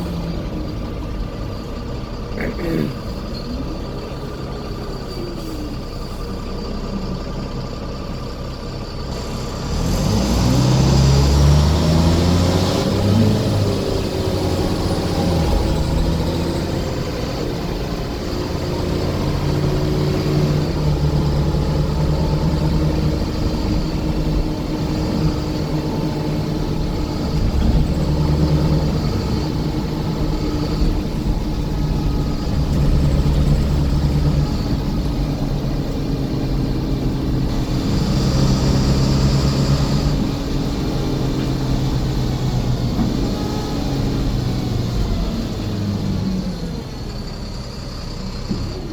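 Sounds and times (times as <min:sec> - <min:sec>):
coach diesel engine running: 0:00.0 - 0:48.9.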